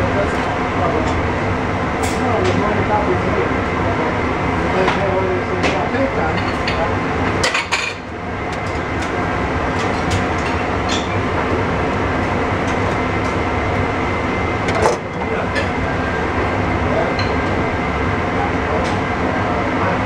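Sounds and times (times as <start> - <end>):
kitchen machinery drone: 0.0 - 20.0.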